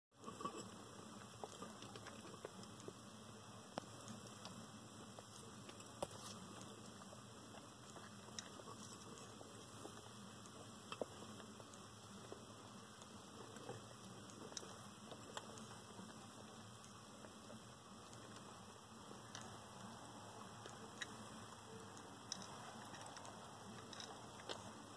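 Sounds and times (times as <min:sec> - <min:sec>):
crabs clicking and scratching: 0:00.1 - 0:24.9
low steady hum and hiss: 0:00.2 - 0:24.9.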